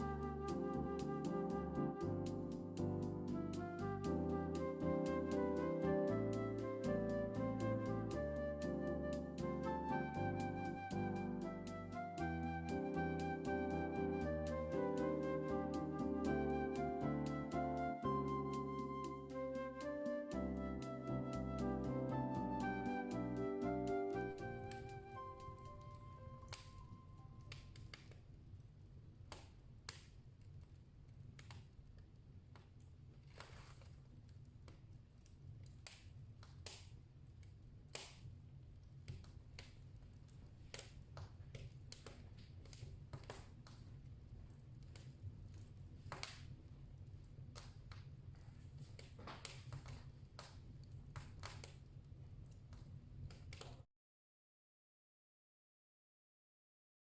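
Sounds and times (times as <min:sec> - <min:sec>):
wood fire crackling: 0:00.0 - 0:53.8.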